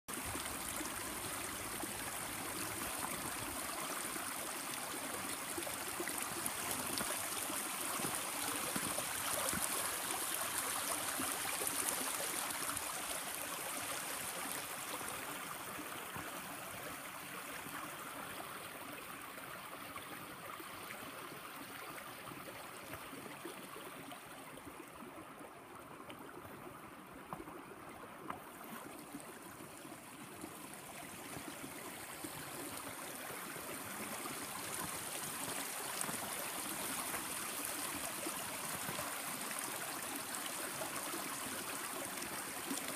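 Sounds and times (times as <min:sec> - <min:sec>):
water flowing in stone channel: 0:00.1 - 0:42.9.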